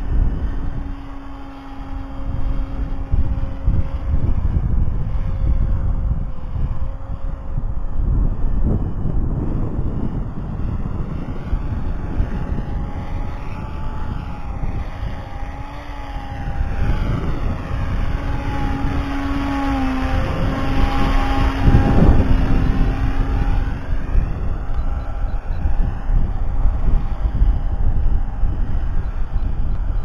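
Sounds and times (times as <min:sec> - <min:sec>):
model aircraft propeller droning: 0:00.0 - 0:30.0
wind buffeting microphone: 0:00.0 - 0:30.0.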